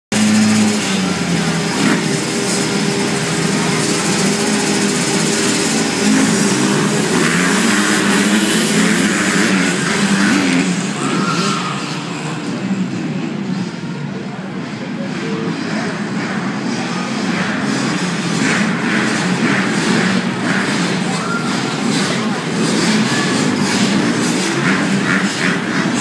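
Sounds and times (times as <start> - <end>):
motocross bikes revving: 0.1 - 26.0.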